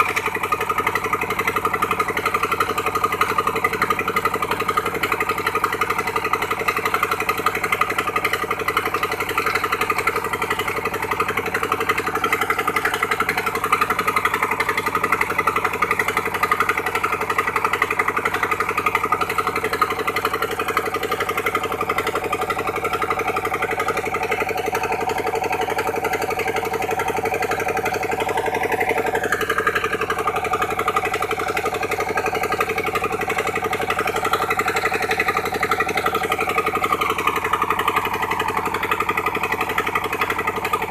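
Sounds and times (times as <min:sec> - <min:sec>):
dredge pump engine running: 0:00.0 - 0:40.9.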